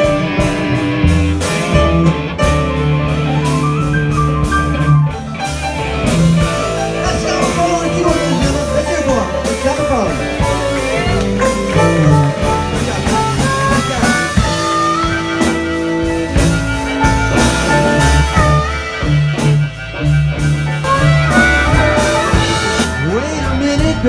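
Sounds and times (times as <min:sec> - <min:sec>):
drums: 0:00.0 - 0:24.0
electric guitars: 0:00.0 - 0:24.0
harmonica bending notes: 0:00.0 - 0:24.0
keyboard: 0:00.0 - 0:24.0
upright bass: 0:00.0 - 0:24.0.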